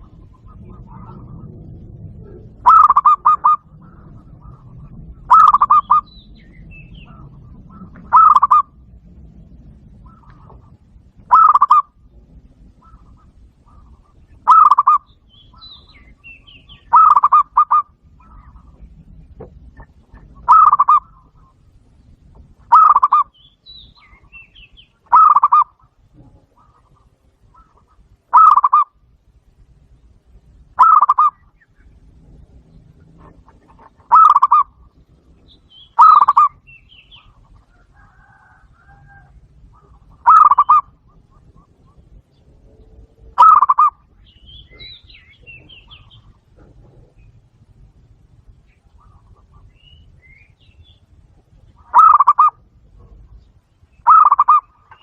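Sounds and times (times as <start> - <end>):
dove cooing: 0.0 - 21.7, 22.4 - 23.4, 24.0 - 29.2, 30.7 - 48.1, 51.5 - 53.4, 54.0 - 55.0.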